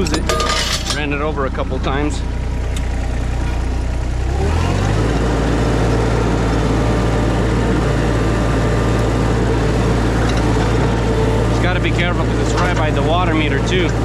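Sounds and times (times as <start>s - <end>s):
skid steer engine revving: 0.0s - 14.0s.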